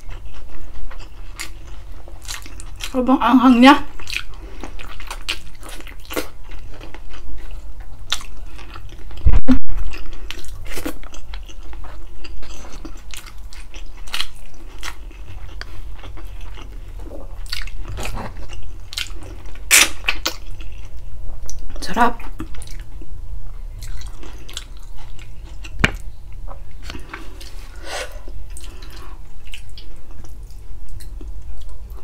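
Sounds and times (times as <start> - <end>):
chewing and mouth smacks: 0.0 - 3.0, 4.0 - 20.9, 23.8 - 27.6, 28.5 - 31.9.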